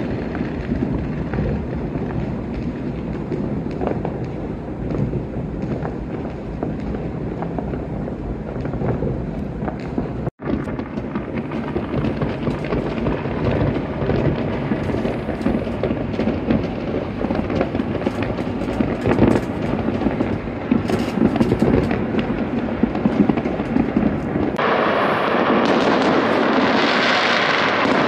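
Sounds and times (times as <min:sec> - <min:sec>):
distant fireworks rumble and pops: 0:00.0 - 0:28.0.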